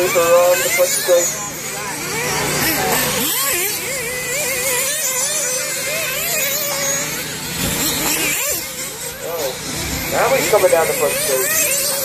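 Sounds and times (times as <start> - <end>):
rc car engines revving: 0.0 - 12.0.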